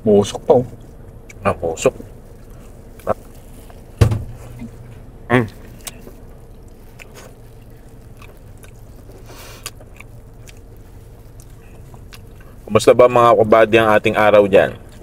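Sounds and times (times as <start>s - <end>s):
low car cabin hum: 0.0s - 15.0s
people chewing: 0.7s - 12.8s.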